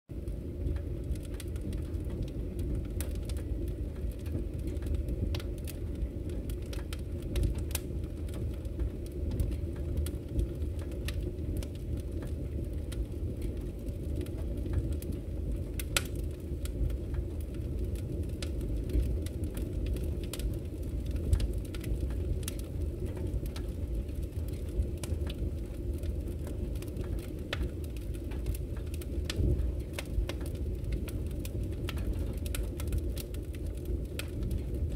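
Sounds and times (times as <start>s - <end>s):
fire crackling and popping: 0.1s - 34.9s
fire flames rumbling: 0.1s - 34.9s.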